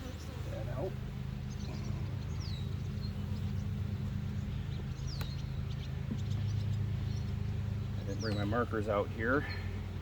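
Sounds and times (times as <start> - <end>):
honey bees humming: 0.0 - 10.0.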